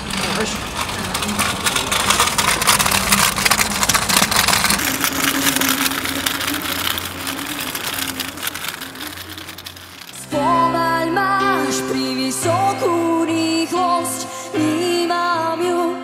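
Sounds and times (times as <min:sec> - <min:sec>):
scooter wheels rolling over paving: 0:00.0 - 0:15.7.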